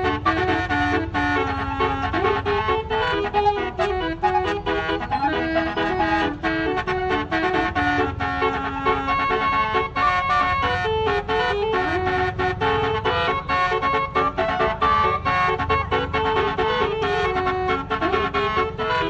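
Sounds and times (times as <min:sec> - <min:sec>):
melodic vehicle horn: 0:00.0 - 0:19.0.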